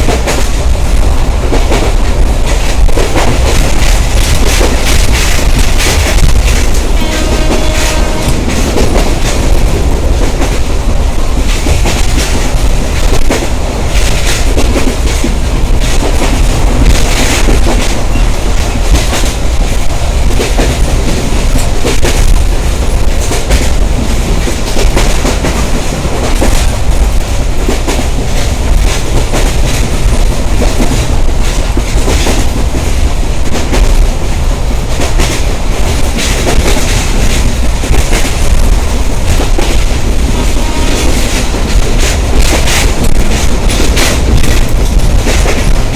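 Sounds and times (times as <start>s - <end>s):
clickety-clack of rail joints: 0.0s - 45.9s
train wheels rumbling on rail: 0.0s - 45.9s.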